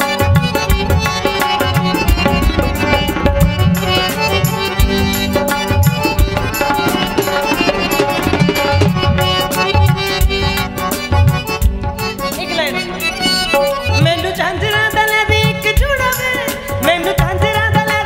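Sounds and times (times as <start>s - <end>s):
harmonium and keyboard notes: 0.0s - 18.0s
tabla rhythm: 0.0s - 18.0s.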